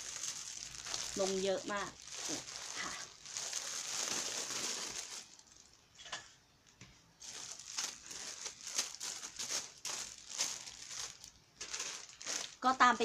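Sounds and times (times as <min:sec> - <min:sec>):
plastic crinkling: 0:00.0 - 0:05.9, 0:07.2 - 0:13.0.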